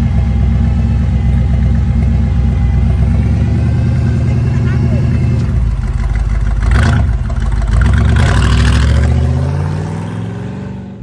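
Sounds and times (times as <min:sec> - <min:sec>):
hot rod engine revving: 0:00.0 - 0:11.0.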